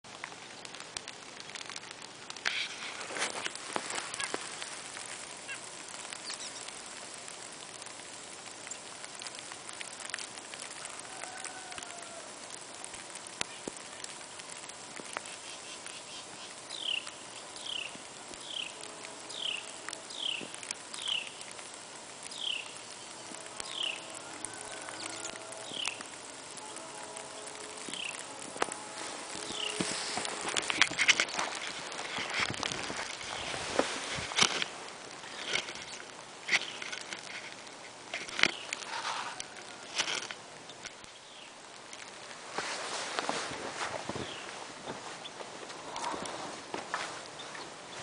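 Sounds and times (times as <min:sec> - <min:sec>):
outdoor hiss: 0:00.0 - 0:48.0.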